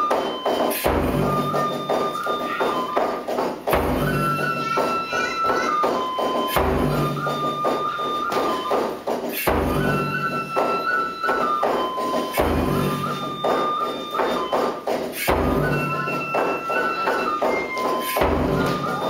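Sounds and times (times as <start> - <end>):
drum strokes and taps: 0.0 - 19.0
flute melody: 0.0 - 19.0.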